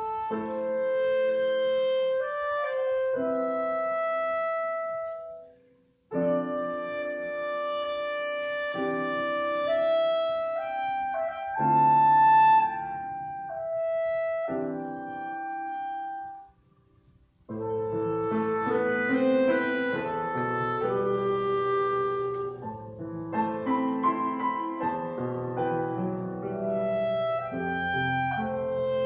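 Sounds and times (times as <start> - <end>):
slow church keyboard music: 0.0 - 29.0.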